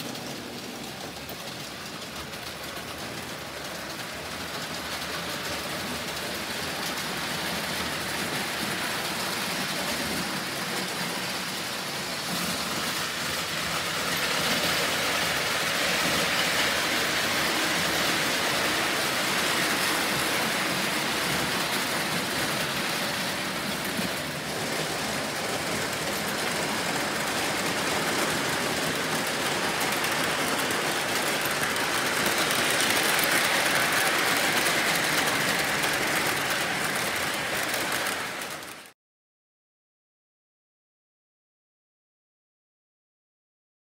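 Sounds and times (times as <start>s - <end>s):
model train whir and rattle: 0.0s - 38.9s.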